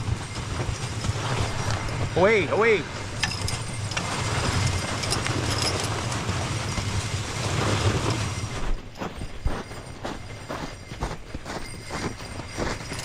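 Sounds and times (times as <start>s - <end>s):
sled runners scraping over snow: 0.0s - 13.0s.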